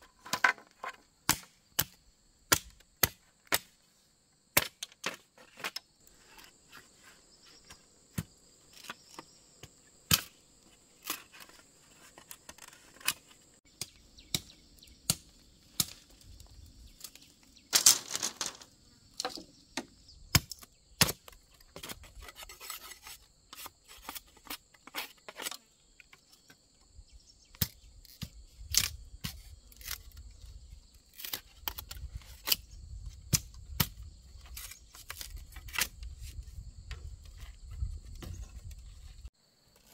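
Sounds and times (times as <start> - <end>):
bamboo being cut and split: 0.0 - 3.8, 4.5 - 17.3, 19.2 - 25.6, 27.5 - 39.9
insects trilling: 5.2 - 39.9.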